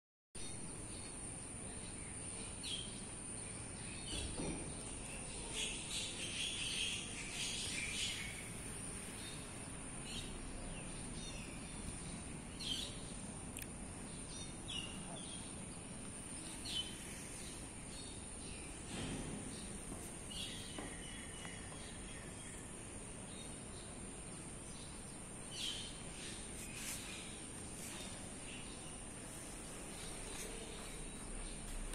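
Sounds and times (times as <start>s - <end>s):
birds chirping: 0.4s - 31.9s
low hiss: 0.4s - 31.9s
steady high-pitched whine: 0.4s - 31.9s.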